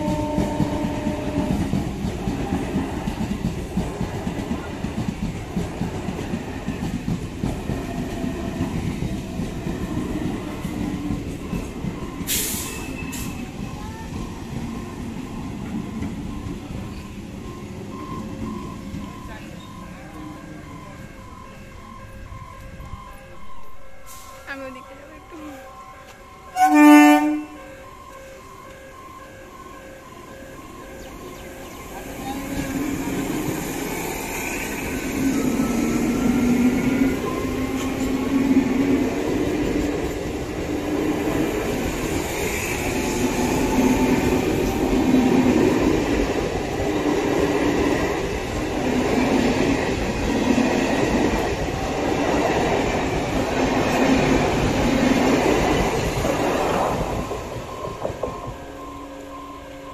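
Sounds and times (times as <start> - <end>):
electric train passing: 0.0 - 59.9
wheels rumbling on rails: 0.0 - 59.9.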